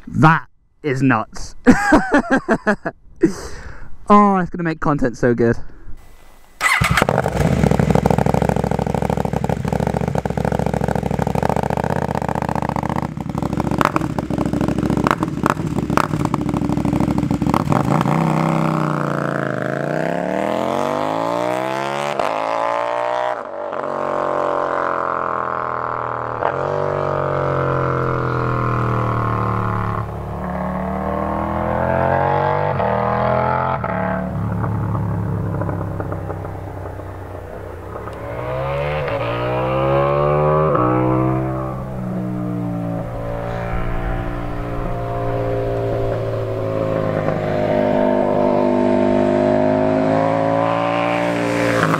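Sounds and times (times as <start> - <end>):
motorcycle engine accelerating: 6.6 - 51.9.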